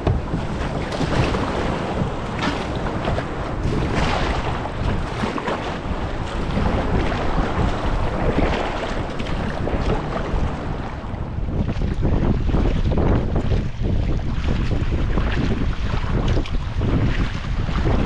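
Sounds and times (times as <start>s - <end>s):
water lapping around kayak: 0.0s - 18.0s
wind buffeting microphone: 0.0s - 18.0s.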